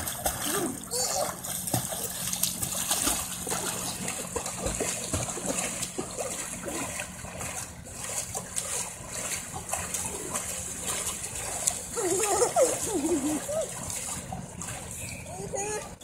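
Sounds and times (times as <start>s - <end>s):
water splashing and lapping: 0.0s - 16.0s.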